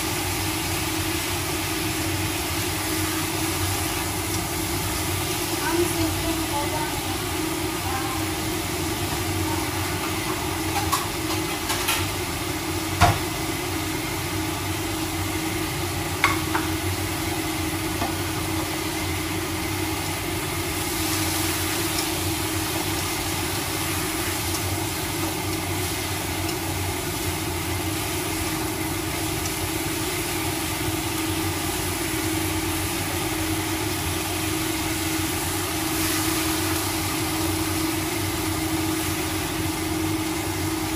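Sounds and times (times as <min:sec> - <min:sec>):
vegetables sizzling in a pan: 0:00.0 - 0:40.9.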